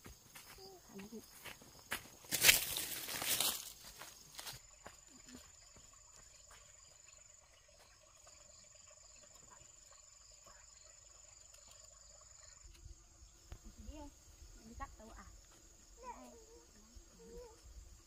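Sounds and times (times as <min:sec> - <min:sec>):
high-pitched insect trill: 0:02.4 - 0:18.0.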